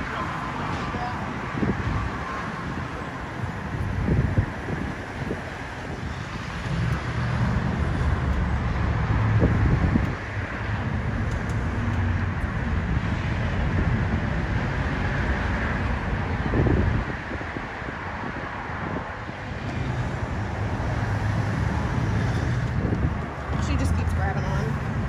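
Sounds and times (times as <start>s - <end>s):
highway traffic: 0.0s - 25.0s
vehicle engine humming: 0.0s - 25.0s.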